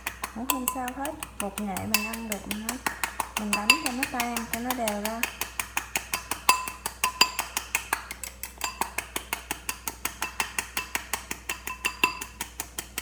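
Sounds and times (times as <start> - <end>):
fork clinking against bowl: 0.2 - 2.8, 3.4 - 5.4, 6.1 - 12.6.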